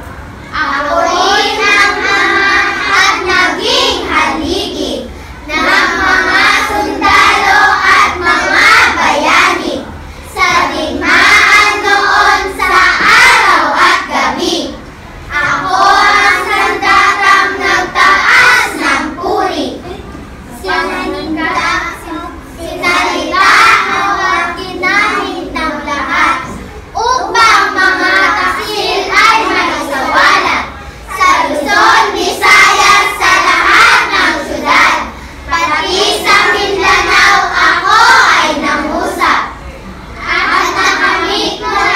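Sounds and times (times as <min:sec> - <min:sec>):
children reciting in unison: 0:00.0 - 0:41.9.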